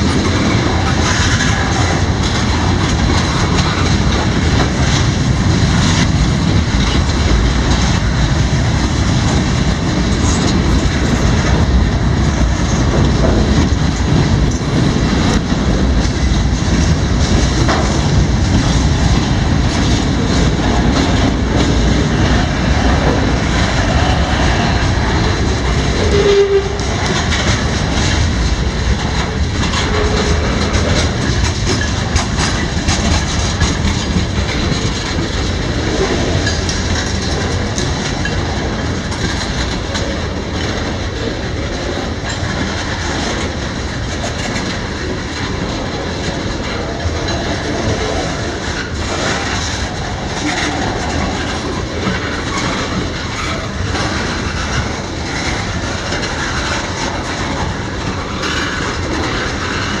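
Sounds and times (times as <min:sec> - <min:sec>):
freight train cars rolling: 0:00.0 - 1:00.0
wheels clicking over rail joints: 0:00.0 - 1:00.0.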